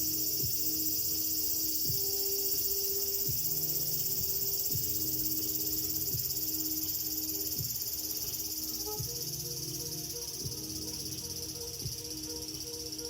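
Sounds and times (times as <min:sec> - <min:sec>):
insects chorus: 0:00.0 - 0:13.0
soft background music: 0:00.0 - 0:13.0.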